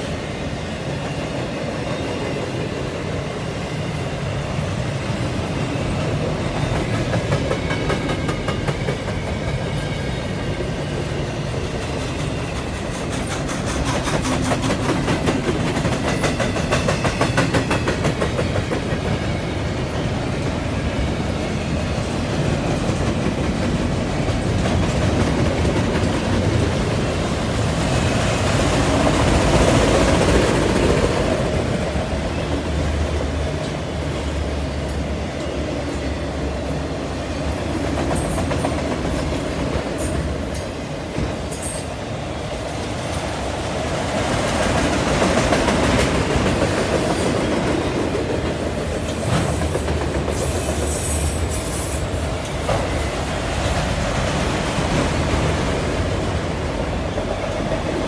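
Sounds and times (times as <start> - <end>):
train wheels rumbling on rails: 0.0 - 58.0
clickety-clack over rail joints: 5.8 - 42.0, 42.6 - 58.0.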